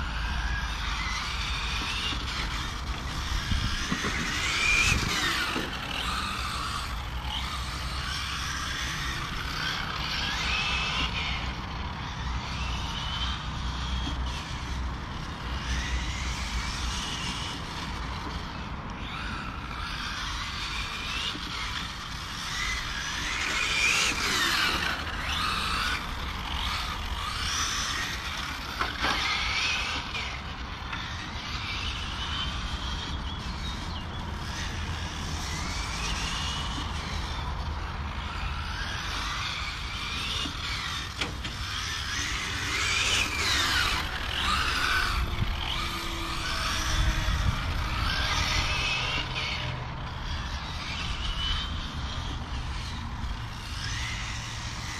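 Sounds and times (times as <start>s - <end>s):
electric rc car motors whining: 0.0s - 54.9s.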